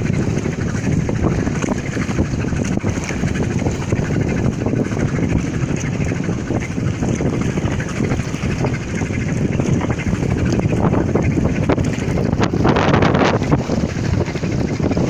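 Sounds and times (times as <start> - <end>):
speedboats on water: 0.0 - 15.0
wind buffeting microphone: 0.0 - 15.0.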